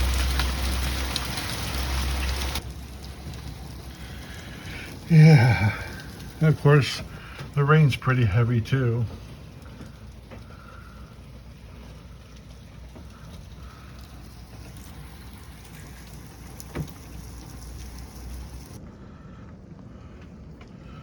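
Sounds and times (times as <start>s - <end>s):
heavy rain and hail: 0.0s - 18.8s
low rumble: 0.0s - 20.1s.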